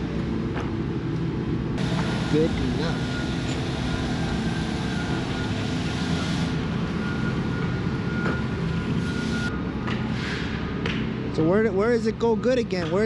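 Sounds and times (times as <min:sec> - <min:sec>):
heavy machinery engine humming: 0:00.0 - 0:13.0.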